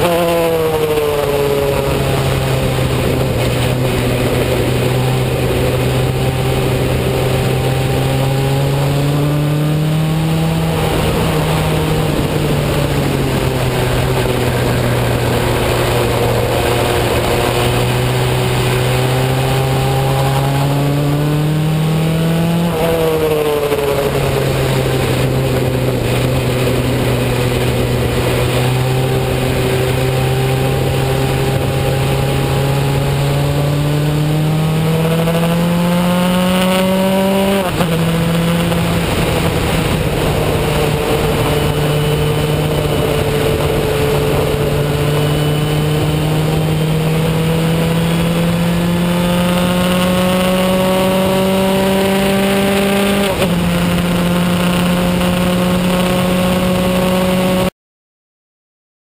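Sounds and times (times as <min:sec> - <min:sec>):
race car engine at speed: 0:00.0 - 0:57.7.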